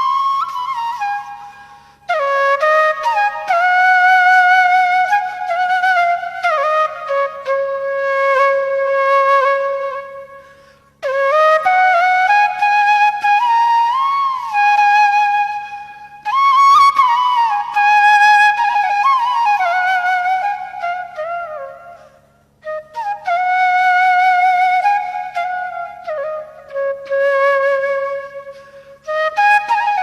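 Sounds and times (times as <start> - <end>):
slow flute melody: 0.0 - 30.0.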